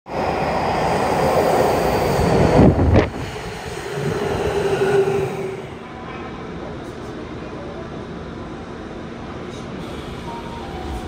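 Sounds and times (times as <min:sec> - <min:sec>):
train running and wheel noise: 0:00.1 - 0:11.0.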